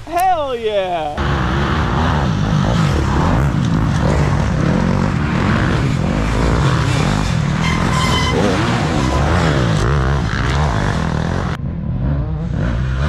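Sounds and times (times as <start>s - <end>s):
dirt bike engines revving: 0.8s - 13.0s.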